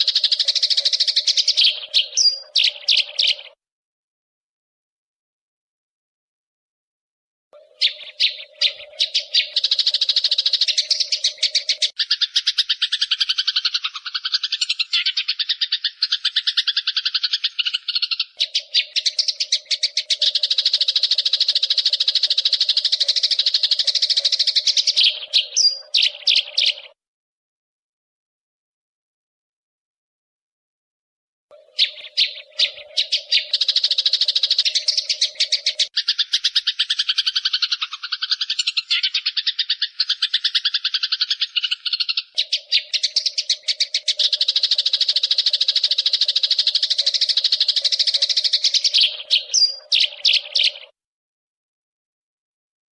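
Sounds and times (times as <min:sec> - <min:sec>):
sparrows chattering: 0:00.0 - 0:03.6, 0:07.6 - 0:27.0, 0:31.5 - 0:51.0.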